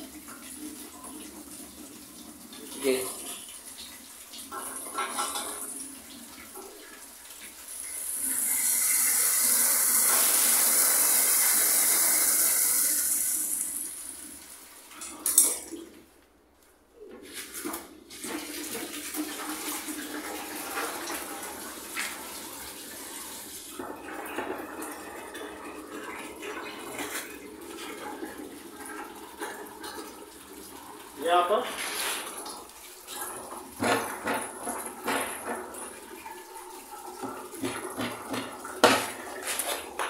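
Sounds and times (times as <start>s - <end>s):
water gushing from a bucket: 0.0s - 14.9s, 17.4s - 40.0s.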